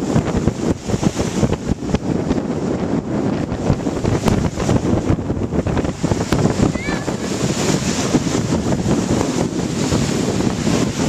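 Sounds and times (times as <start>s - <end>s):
small waves breaking on shore: 0.0s - 11.0s
wind buffeting microphone: 0.0s - 11.0s.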